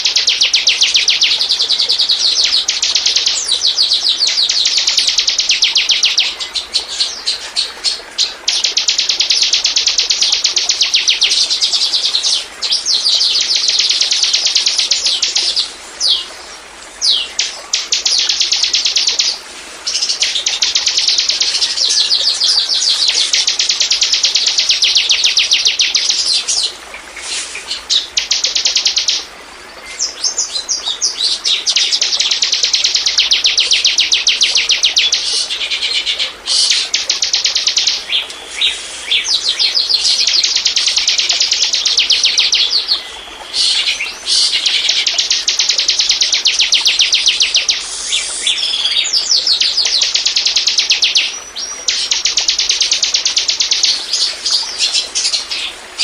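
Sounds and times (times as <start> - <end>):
bird singing high trill: 0.0 - 16.3, 17.0 - 26.7, 27.4 - 29.3, 30.0 - 55.7.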